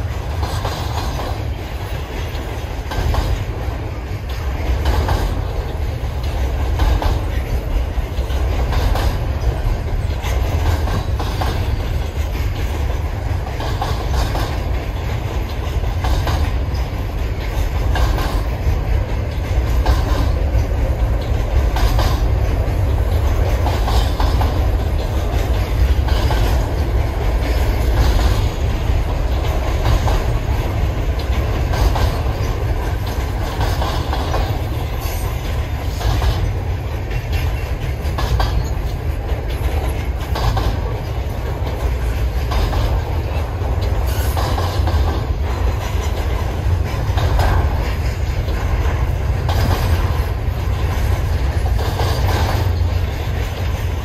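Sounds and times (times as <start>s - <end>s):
train rumbling past: 0.0s - 54.0s
train wheels clacking on rails: 0.0s - 54.0s.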